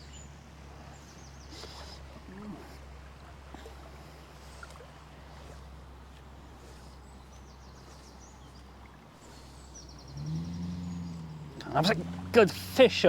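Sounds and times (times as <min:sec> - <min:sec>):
river water over stones: 0:00.0 - 0:13.0.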